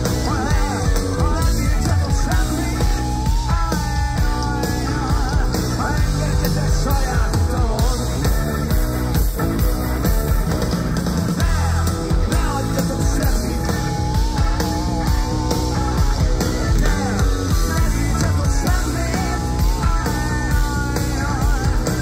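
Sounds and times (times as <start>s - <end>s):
rock band playing live: 0.0s - 22.0s
sung melody: 0.0s - 22.0s.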